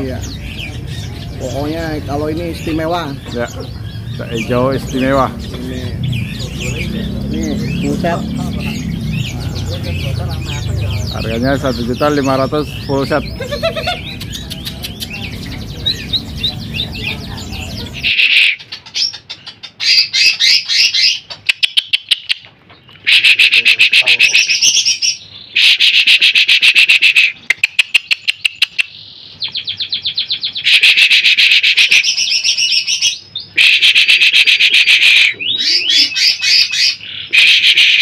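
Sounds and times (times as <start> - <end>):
bird singing chattering phrases: 0.0 - 38.0.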